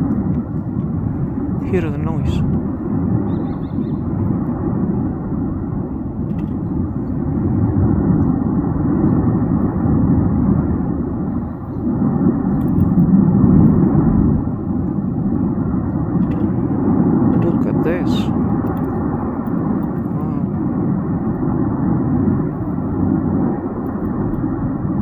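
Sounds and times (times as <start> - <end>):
volcano rumbling: 0.0 - 25.0.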